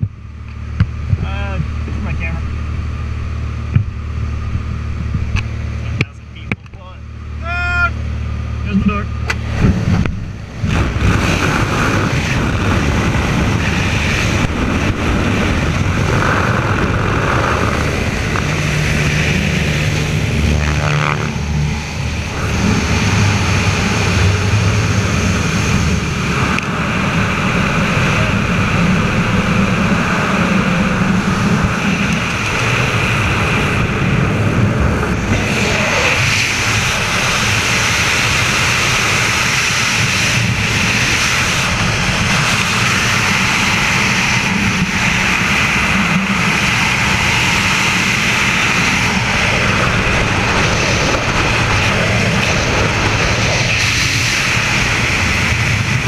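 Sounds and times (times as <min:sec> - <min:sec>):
propeller plane engine running: 0:00.0 - 0:56.0
wind rushing: 0:08.0 - 0:56.0.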